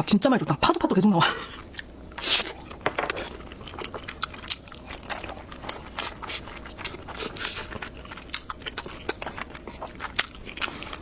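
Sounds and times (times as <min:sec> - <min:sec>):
chewing food: 0:01.7 - 0:11.0.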